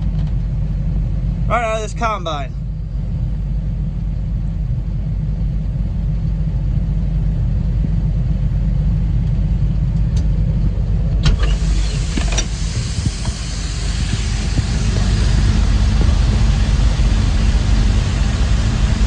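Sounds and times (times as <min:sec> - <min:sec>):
combine harvester rumbling: 0:00.0 - 0:19.0.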